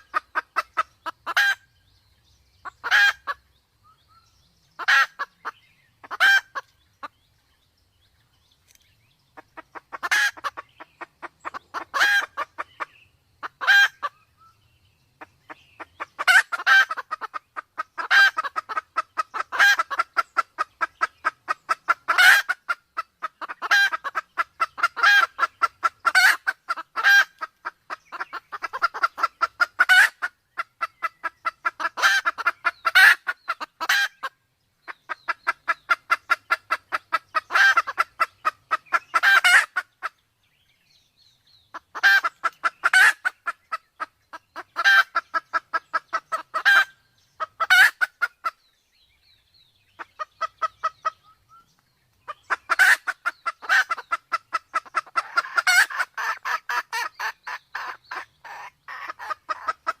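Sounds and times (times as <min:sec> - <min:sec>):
junglefowl clucking calls: 0:00.0 - 0:01.8, 0:02.6 - 0:07.2, 0:09.3 - 0:14.6, 0:15.2 - 0:40.2, 0:41.7 - 0:48.7, 0:49.9 - 1:00.0.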